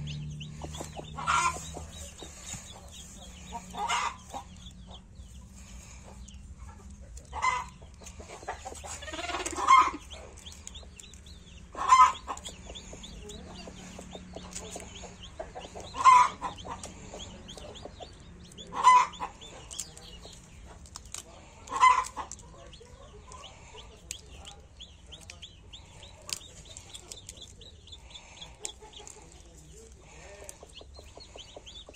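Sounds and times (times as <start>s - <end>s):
background clucking: 0.0s - 31.9s
chicken calls: 0.0s - 31.9s.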